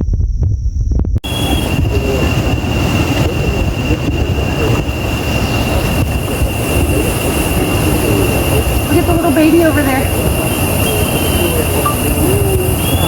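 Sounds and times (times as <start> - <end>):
insect chorus droning: 1.2 - 13.0.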